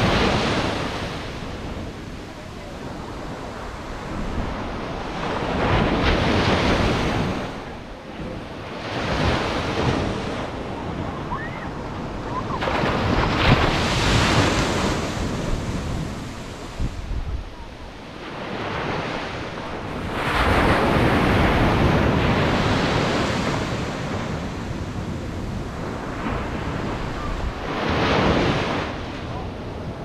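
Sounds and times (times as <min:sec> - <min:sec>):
waves crashing on sandy beach: 0:00.0 - 0:30.0.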